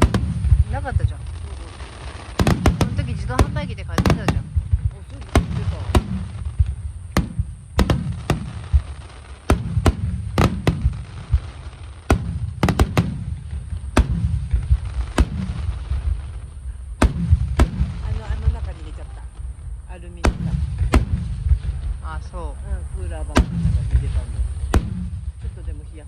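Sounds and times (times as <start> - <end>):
fireworks bangs: 0.0 - 26.0
low rumble of booms: 0.0 - 26.0.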